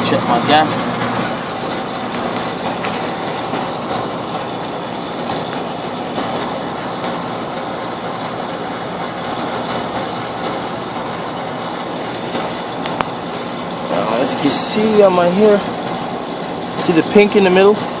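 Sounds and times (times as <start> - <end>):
air conditioner unit running: 0.0 - 18.0.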